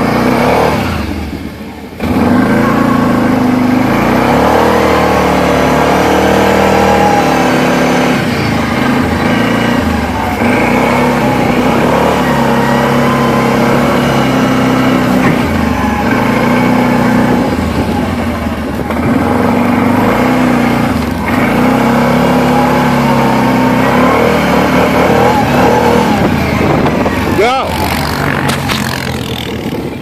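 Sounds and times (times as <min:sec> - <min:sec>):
quad bike engine revving: 0:00.0 - 0:30.0.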